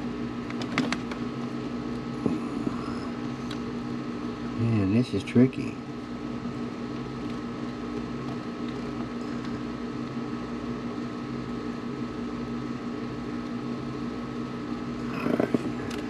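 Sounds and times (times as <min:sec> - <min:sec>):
mechanical hum with low drone: 0:00.0 - 0:16.0.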